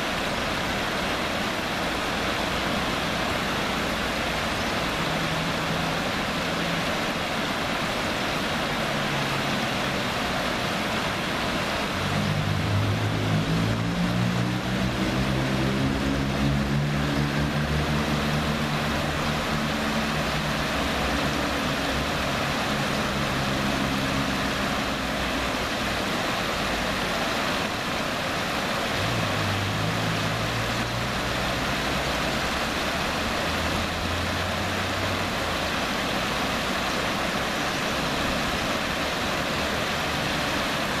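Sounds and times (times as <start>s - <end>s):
low engine hum: 0.0s - 41.0s
river rushing over rapids: 0.0s - 41.0s.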